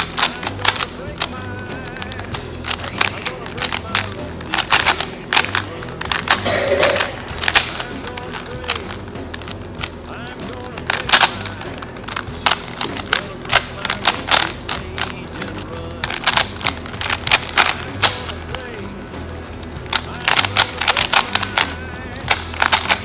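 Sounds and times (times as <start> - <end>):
background music: 0.0 - 23.0
puzzle cube plastic clicks: 0.0 - 23.0.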